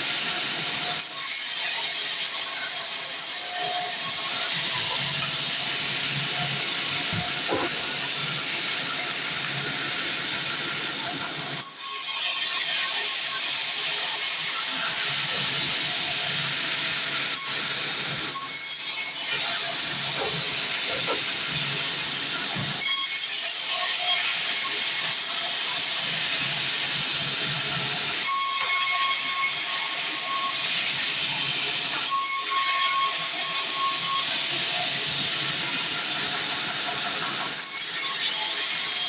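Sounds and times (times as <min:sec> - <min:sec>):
saw cutting through wood: 0:00.0 - 0:39.0.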